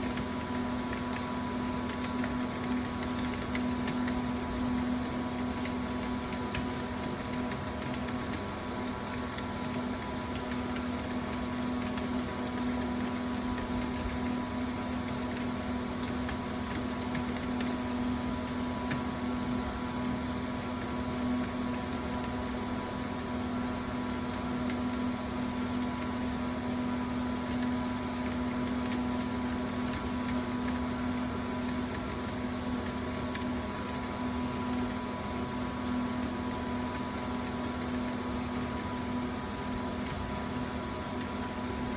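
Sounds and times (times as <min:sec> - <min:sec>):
steady machine hum: 0:00.0 - 0:41.9.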